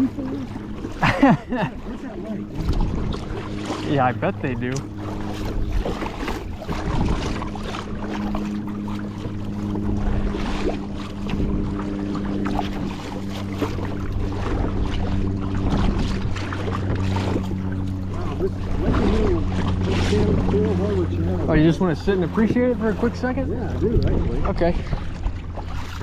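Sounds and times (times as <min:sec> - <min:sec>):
paddle splashes: 0:00.0 - 0:26.0
steady low hum: 0:00.0 - 0:26.0.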